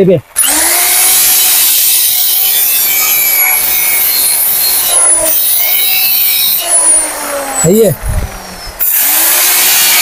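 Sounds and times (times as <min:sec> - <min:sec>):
angle grinder grinding steel: 0:00.4 - 0:10.0.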